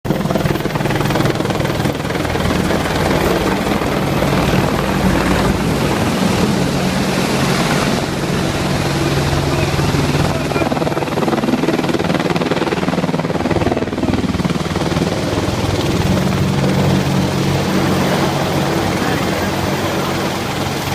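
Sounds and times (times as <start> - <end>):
helicopter flying: 0.0 - 20.9.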